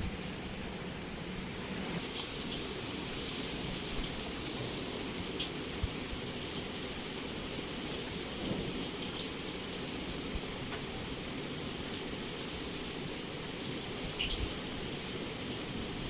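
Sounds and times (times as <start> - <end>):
heavy rain against window: 0.0 - 16.0.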